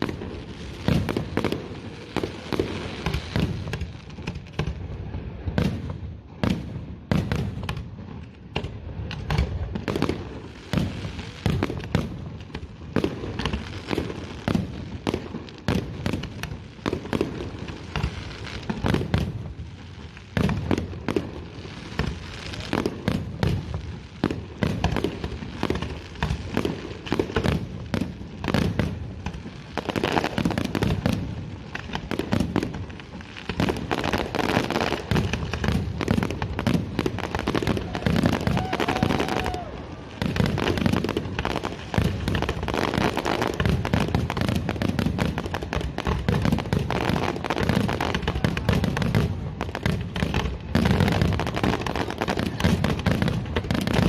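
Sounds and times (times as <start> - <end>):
fireworks bangs and booms: 0.0 - 54.0
fireworks crackling: 0.0 - 54.0.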